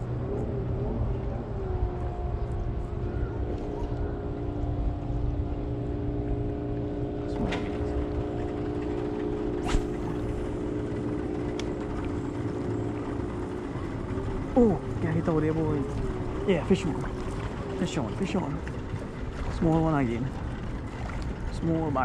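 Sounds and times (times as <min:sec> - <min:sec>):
distant motorboat engine drone: 0:00.0 - 0:22.0
wind and water rumble: 0:00.0 - 0:22.0.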